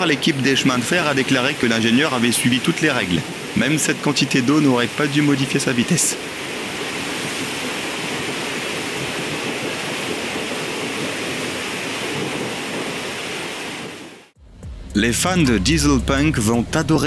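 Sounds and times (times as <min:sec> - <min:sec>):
rush of water spray: 0:00.0 - 0:14.4.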